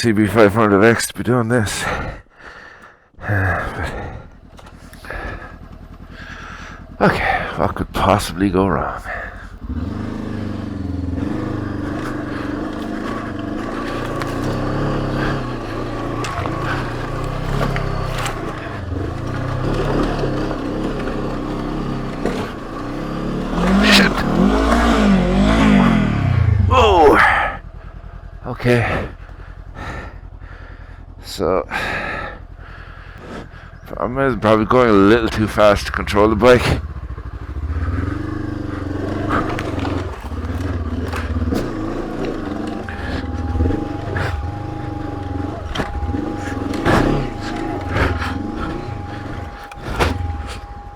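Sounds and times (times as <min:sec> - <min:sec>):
motorcycle engine climbing hill: 0:03.1 - 0:50.9.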